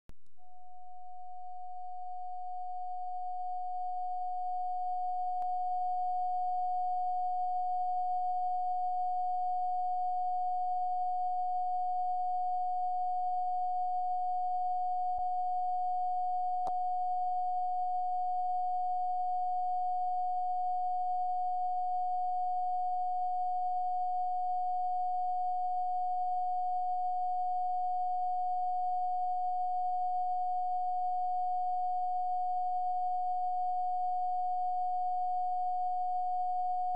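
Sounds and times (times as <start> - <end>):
pure sine tone: 0.1 - 36.9.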